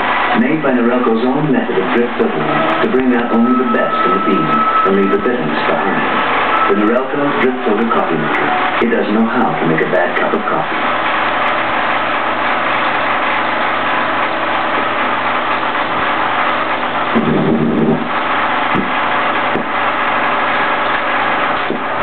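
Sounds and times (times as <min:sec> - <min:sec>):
film projector hiss and hum: 0:00.0 - 0:22.0.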